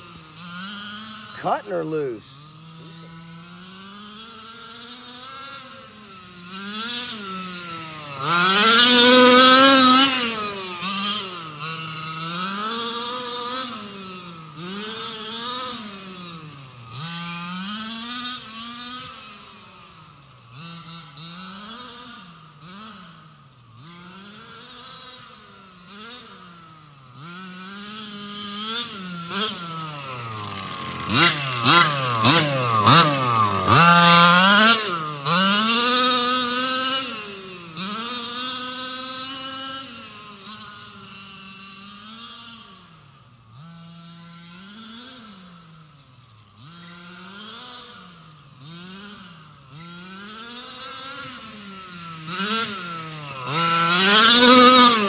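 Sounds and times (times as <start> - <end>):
small engine revving: 0.0 - 55.0.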